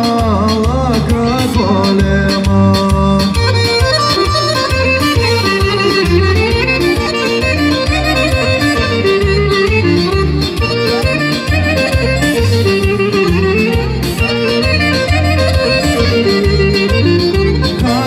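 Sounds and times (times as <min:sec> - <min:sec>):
live folk dance music: 0:00.0 - 0:18.0.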